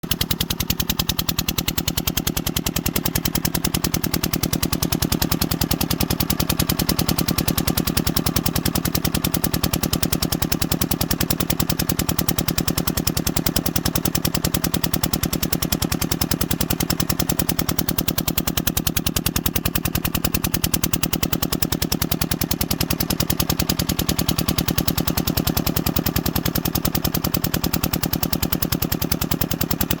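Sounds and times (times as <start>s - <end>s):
engine exhaust pulsing: 0.0s - 30.0s.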